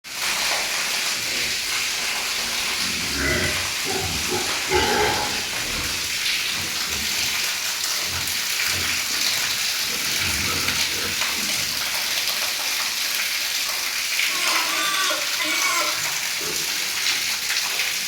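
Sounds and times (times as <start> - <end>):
hiss of spraying water: 0.1 - 18.0.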